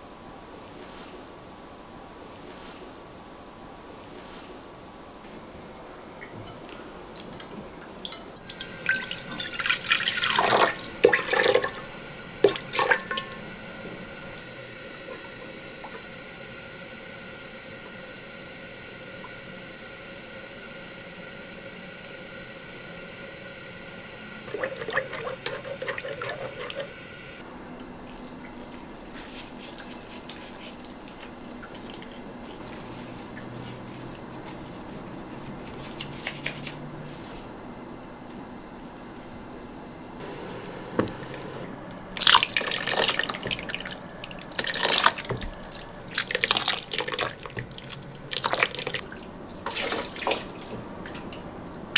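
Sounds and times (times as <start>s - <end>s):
steady hum with high whine: 0.0s - 51.9s.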